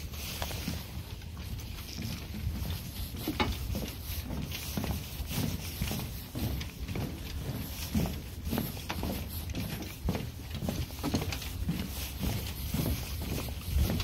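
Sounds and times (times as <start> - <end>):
walking footsteps: 0.0 - 14.0.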